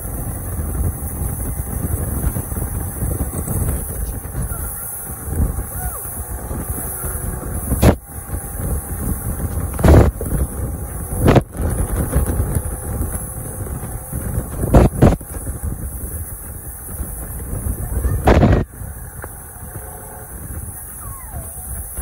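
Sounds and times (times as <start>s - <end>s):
motorboat engine rumble: 0.0s - 22.0s.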